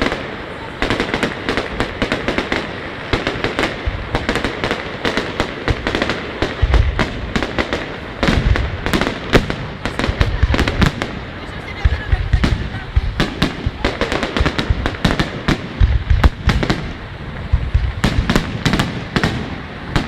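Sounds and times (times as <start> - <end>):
fireworks crackling: 0.0 - 20.0
fireworks shell booms: 0.8 - 20.0.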